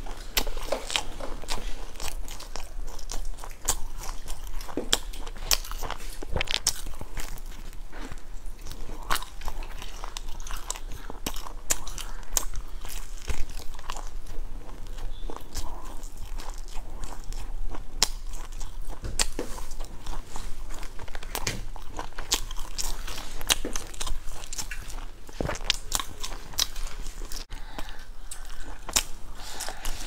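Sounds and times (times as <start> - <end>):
crunching fried flatbread: 0.0 - 27.5.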